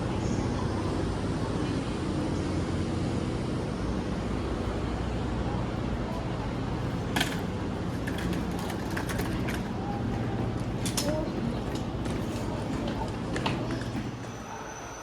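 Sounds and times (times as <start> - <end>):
high-speed train rumble: 0.0 - 15.0.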